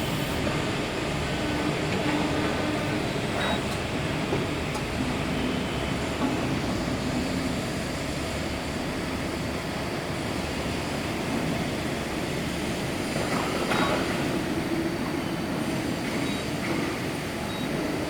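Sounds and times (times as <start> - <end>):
workshop machinery humming: 0.0 - 18.0.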